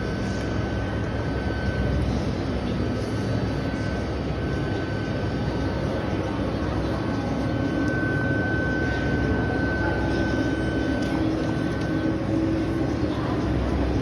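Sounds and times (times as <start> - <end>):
machine mechanical hum: 0.0 - 14.0.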